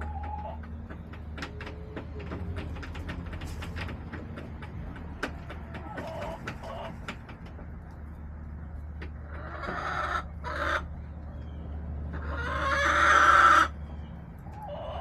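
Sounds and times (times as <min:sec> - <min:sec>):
chickens pecking taps: 0:00.0 - 0:11.4, 0:12.0 - 0:15.0
hen clucks: 0:00.0 - 0:15.0.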